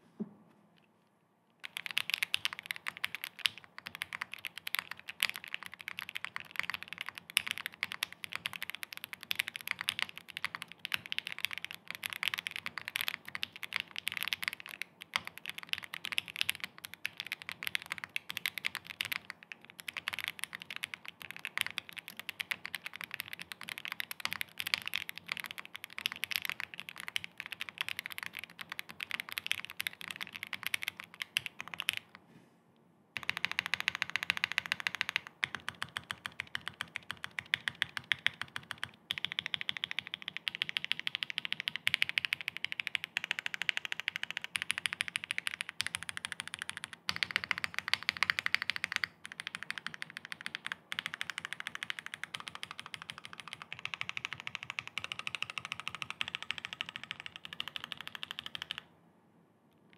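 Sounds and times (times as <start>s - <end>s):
mechanical keyboard typing: 1.6s - 32.2s, 33.2s - 58.9s.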